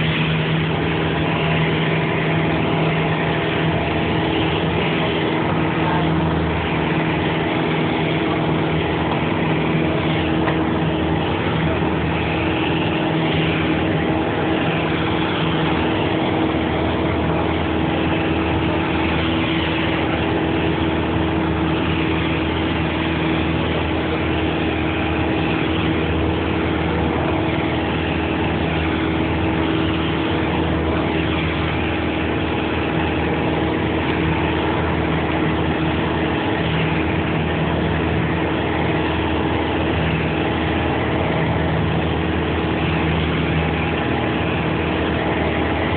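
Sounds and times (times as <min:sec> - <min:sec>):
propeller engine drone: 0:00.0 - 0:45.9
wind and airframe rushing: 0:00.0 - 0:45.9.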